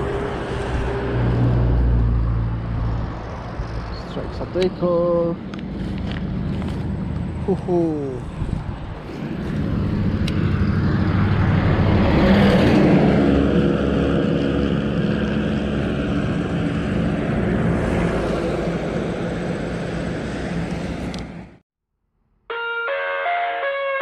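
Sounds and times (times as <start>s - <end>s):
vehicle engine passing by: 0.0s - 21.4s.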